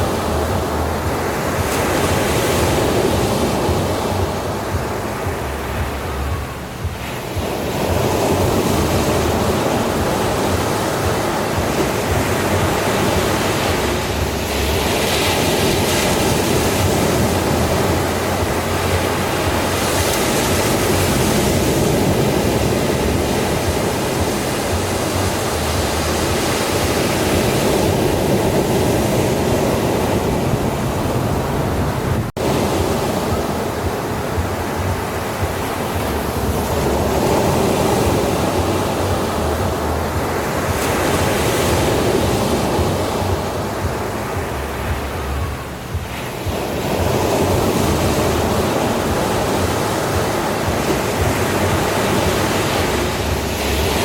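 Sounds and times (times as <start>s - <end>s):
sea waves on a beach: 0.0s - 54.0s.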